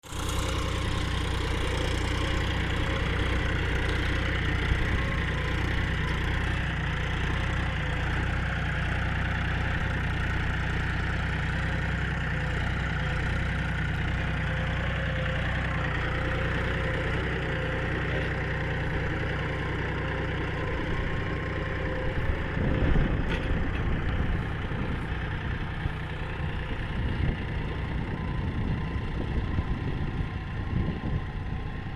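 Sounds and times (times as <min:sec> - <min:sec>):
diesel engines droning: 0:00.0 - 0:31.9.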